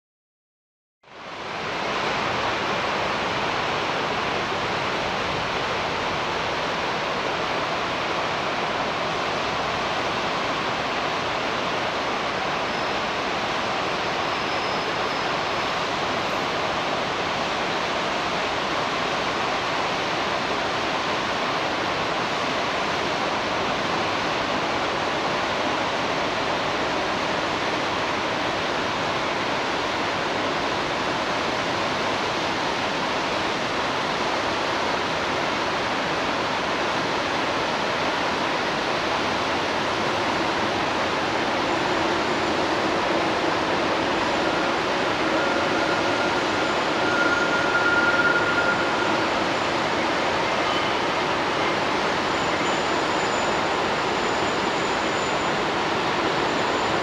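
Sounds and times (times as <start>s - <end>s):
river rushing: 1.2s - 57.0s.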